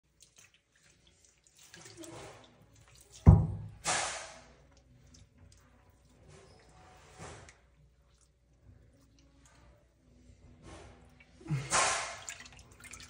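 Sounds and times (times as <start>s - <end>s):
water splashing in a tub: 0.0s - 13.0s.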